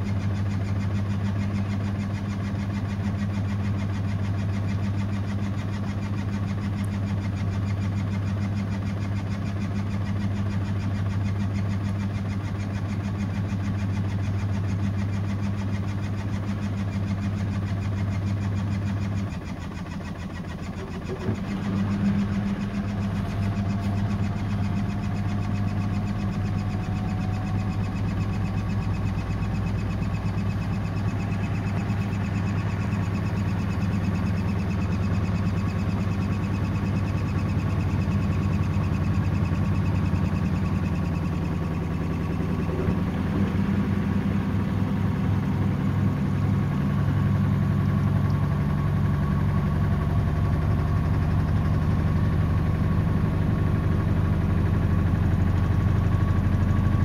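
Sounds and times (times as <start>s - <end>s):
motor whine rising in pitch: 0.0s - 57.0s
washing machine hum: 0.0s - 57.0s.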